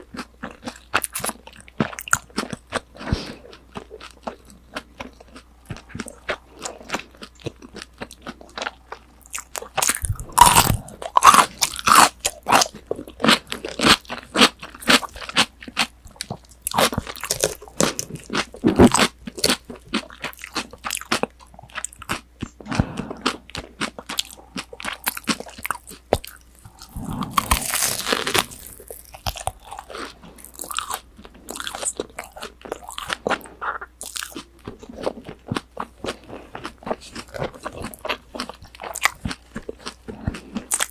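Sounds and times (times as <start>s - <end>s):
crunching and chewing fried food: 0.0s - 40.9s.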